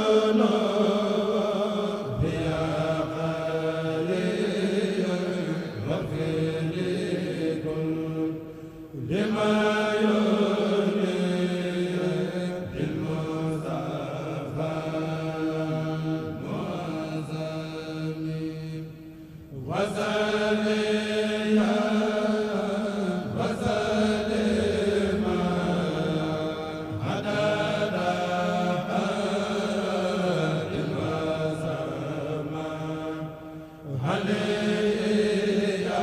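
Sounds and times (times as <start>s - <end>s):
men chanting in unison: 0.0s - 36.0s.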